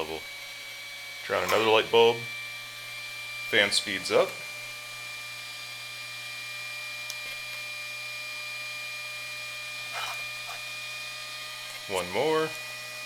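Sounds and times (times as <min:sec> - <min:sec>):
small cooling fan: 0:00.0 - 0:13.0.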